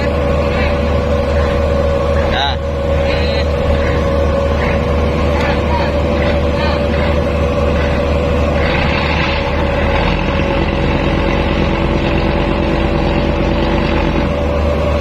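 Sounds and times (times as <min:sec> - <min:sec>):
boat engine running: 0:00.0 - 0:15.0
lower hum: 0:00.0 - 0:15.0.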